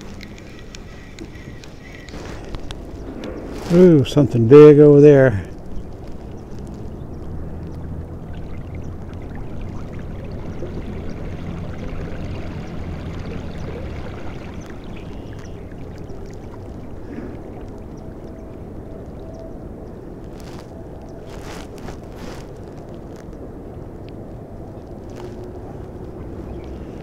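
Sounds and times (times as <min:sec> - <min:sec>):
water rushing along a hull: 0:00.0 - 0:27.0.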